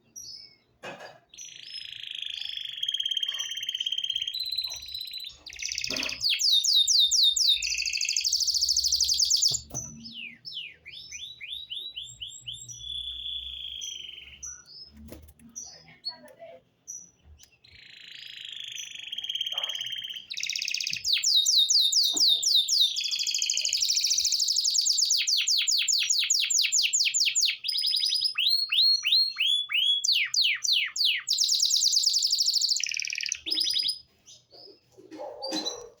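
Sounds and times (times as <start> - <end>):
canary singing trills: 1.3 - 36.0.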